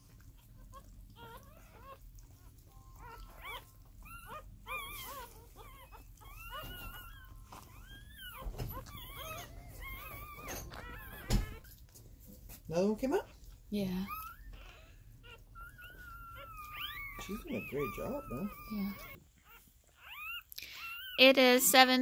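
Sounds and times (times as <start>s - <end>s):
puppies squeaking and crying: 0.0s - 22.0s.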